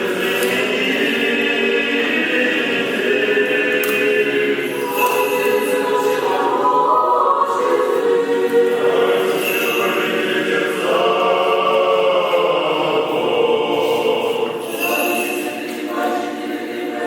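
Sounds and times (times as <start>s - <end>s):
choir chanting unaccompanied: 0.0s - 17.0s.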